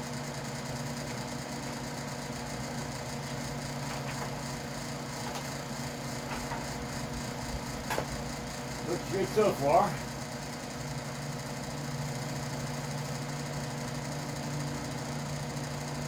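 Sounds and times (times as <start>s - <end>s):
electric fan humming: 0.0s - 16.0s.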